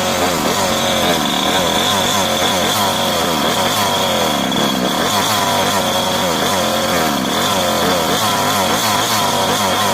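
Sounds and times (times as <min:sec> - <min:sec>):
two-stroke rc car engine revving: 0:00.0 - 0:09.9.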